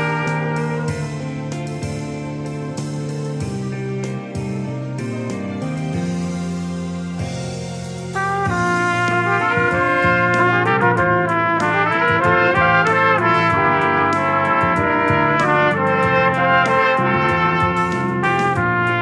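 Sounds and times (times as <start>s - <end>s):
pop backing track with drums: 0.0s - 19.0s
trumpets playing in harmony: 0.0s - 19.0s.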